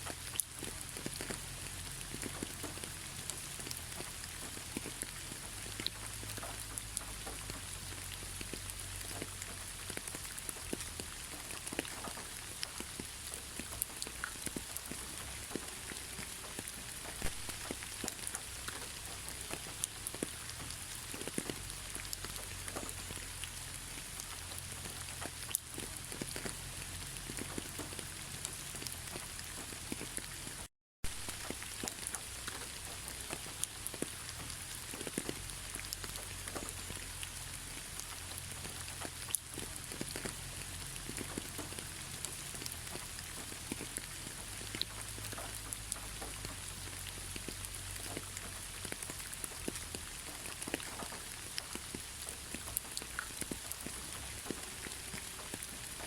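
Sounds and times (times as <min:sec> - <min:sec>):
rain drops ticking: 0:00.0 - 0:56.0.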